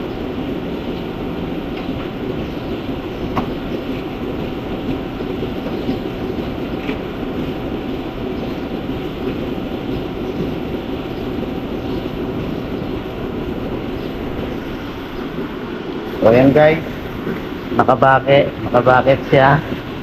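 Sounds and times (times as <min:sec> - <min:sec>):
milking machinery running: 0:00.0 - 0:20.0.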